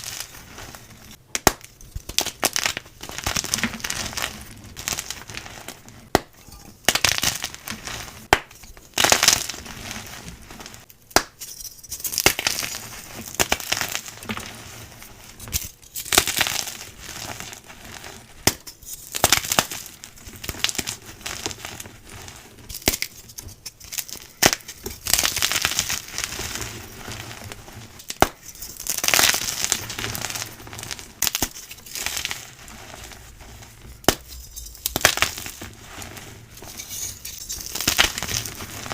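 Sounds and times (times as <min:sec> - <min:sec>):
chalk blocks crunching and crumbling: 0:00.0 - 0:10.9, 0:11.8 - 0:38.9.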